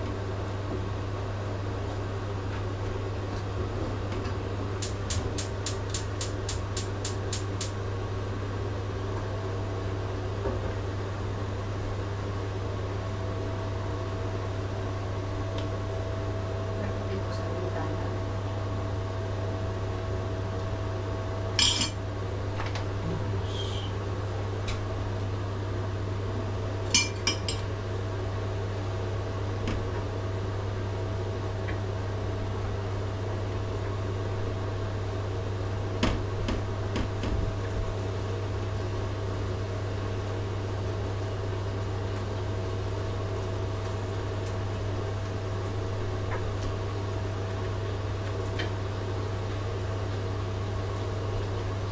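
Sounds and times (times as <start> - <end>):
low electrical appliance hum: 0.0 - 51.9.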